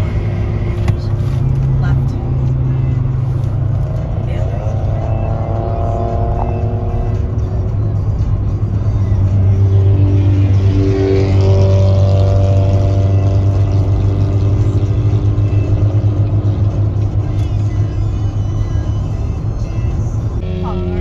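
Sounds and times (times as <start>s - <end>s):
car engine and road drone: 0.0s - 21.0s.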